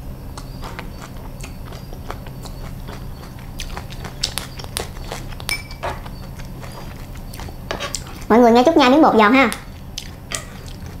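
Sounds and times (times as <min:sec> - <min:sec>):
crunchy chewing: 0:00.1 - 0:08.6, 0:09.5 - 0:11.0.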